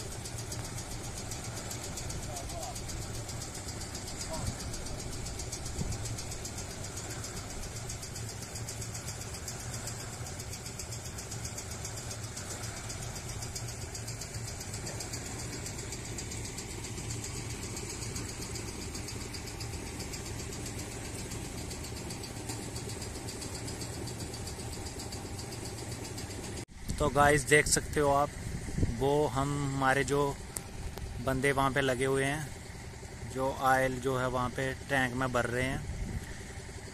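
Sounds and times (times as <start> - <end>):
pump machinery droning: 0.0 - 36.9.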